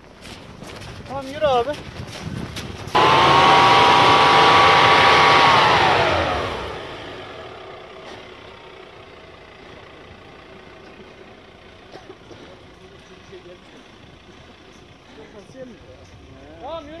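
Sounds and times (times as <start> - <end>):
off-road vehicle engine revving: 2.9 - 16.9.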